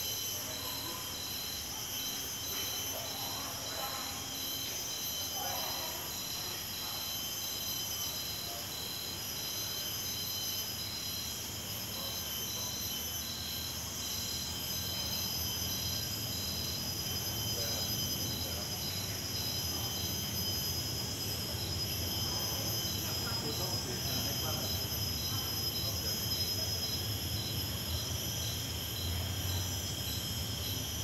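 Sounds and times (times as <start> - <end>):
insect chorus drones: 0.0 - 31.0
pulsing insect drone: 0.0 - 31.0.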